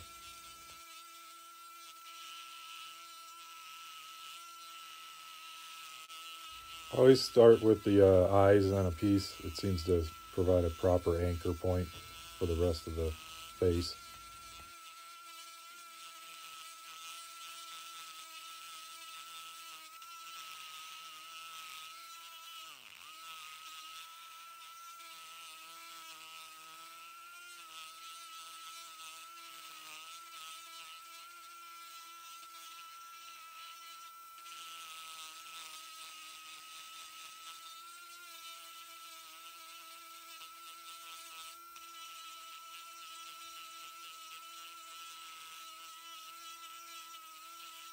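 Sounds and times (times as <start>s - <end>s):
rotary tool grinding wood: 0.0s - 47.9s.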